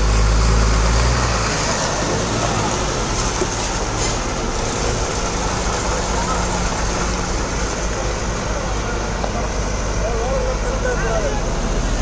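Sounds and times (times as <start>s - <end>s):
diesel lorry engine idling: 0.0s - 12.0s.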